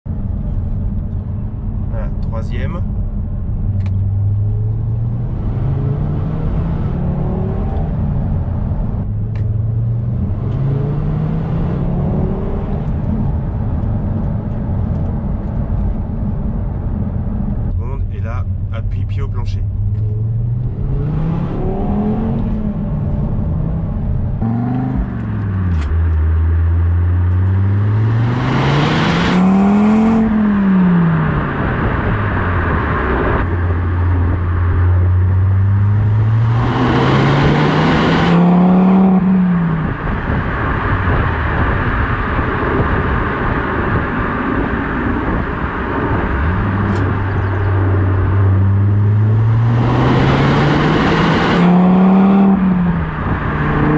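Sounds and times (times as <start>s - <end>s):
car engine revving: 0.2s - 53.9s.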